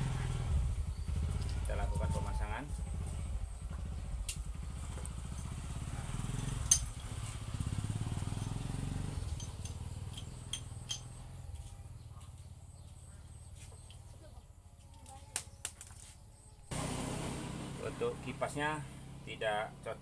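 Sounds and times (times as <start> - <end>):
low engine rumble: 0.0 - 15.4, 16.2 - 20.0.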